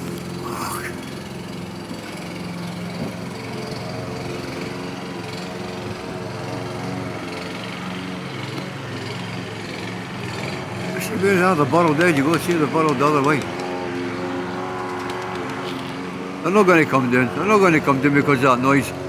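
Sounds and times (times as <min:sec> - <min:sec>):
lawnmower engine running: 0:00.0 - 0:19.0.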